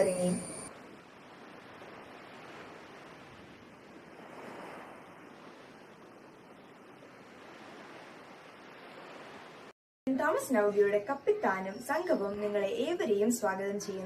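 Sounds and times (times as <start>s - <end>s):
faint sea waves washing: 0.0s - 14.0s.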